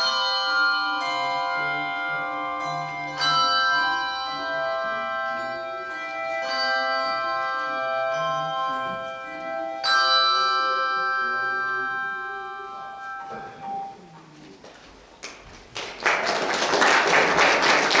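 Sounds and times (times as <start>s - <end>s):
handbell choir ringing chords: 0.0s - 14.0s, 16.0s - 18.0s.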